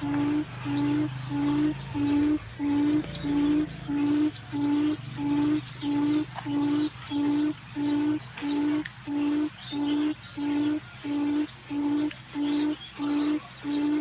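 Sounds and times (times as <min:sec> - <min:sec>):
high rising chirp: 0:00.0 - 0:14.0
low hooting bird call: 0:00.0 - 0:14.0.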